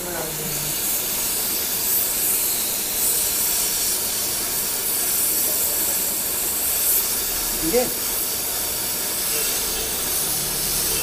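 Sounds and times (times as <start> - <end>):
hot-air gun hissing: 0.0 - 11.0.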